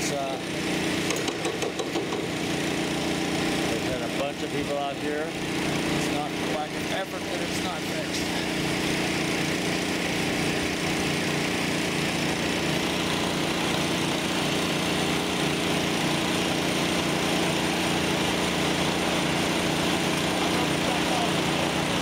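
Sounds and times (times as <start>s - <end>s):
pump engine running: 0.0s - 22.0s.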